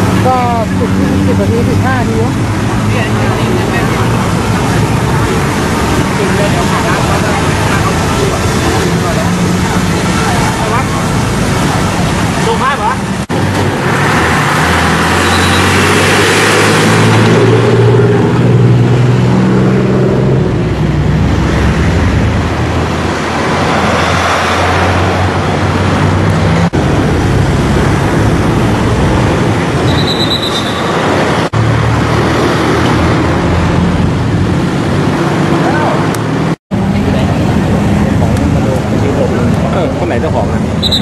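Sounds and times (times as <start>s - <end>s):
vehicles passing on highway: 0.0s - 41.0s.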